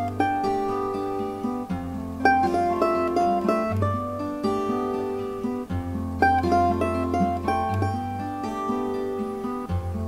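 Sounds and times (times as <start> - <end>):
guitar accompaniment: 0.0 - 10.0
mandolin picking melody: 0.0 - 10.0.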